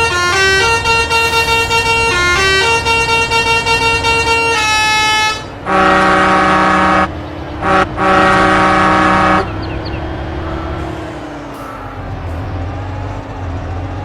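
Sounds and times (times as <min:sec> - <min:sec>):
multi-tone truck horns: 0:00.0 - 0:14.0
vehicle engine: 0:00.0 - 0:14.0.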